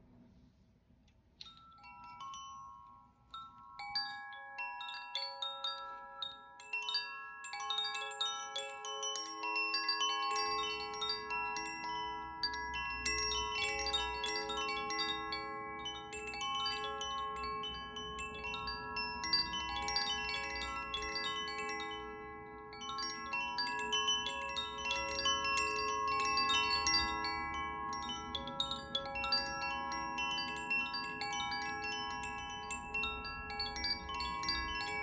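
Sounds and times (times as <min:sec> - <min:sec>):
chimes tinkling: 0:01.3 - 0:35.0.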